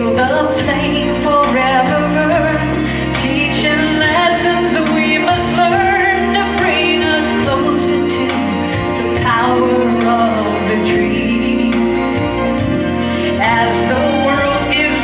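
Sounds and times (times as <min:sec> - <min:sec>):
instrumental accompaniment: 0:00.0 - 0:15.0
woman singing into a microphone: 0:00.0 - 0:15.0.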